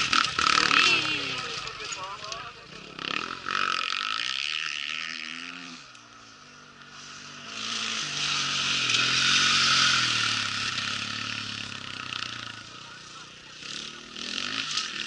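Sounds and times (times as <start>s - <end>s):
motorcycles passing at speed: 0.0s - 15.0s.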